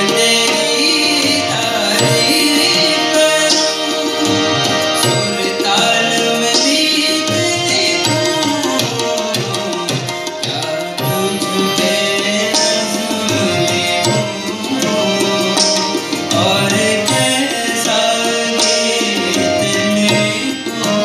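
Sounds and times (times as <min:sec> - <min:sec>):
harmonium chords: 0:00.0 - 0:21.0
tabla drum strokes: 0:00.0 - 0:21.0.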